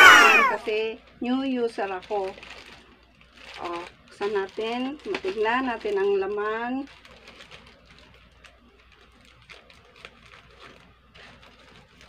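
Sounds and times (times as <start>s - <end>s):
plastic pouch crinkling: 0.0s - 12.0s
scissors cutting plastic: 1.9s - 12.0s.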